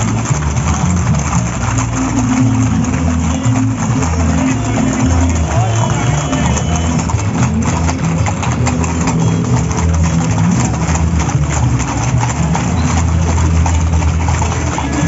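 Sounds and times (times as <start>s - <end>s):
horse hooves clip-clopping on pavement: 0.0s - 15.0s.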